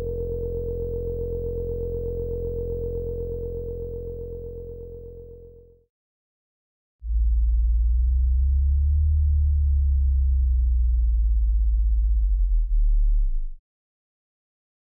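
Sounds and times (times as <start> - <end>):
deep synthesized bass drone: 0.0 - 5.8, 7.1 - 13.6.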